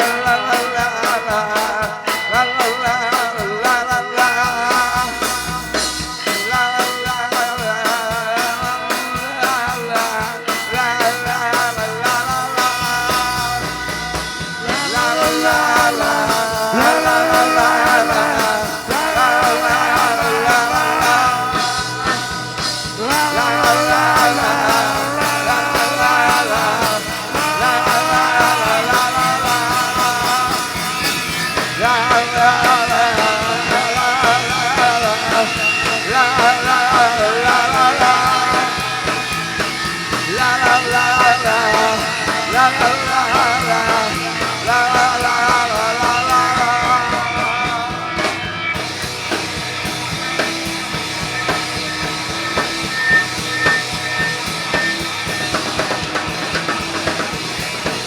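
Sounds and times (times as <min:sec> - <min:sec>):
person singing: 0:00.0 - 0:49.0
drums: 0:00.0 - 0:58.0
live rock band: 0:00.0 - 0:58.0.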